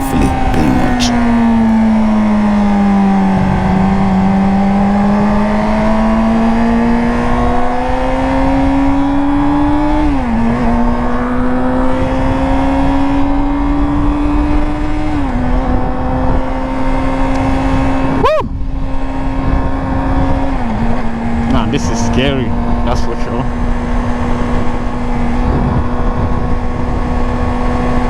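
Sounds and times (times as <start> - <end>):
motorcycle engine accelerating: 1.2 - 28.0.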